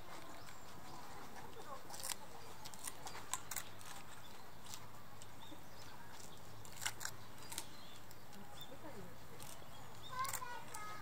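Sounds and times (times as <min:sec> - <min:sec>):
panda chewing bamboo: 0:00.0 - 0:11.0.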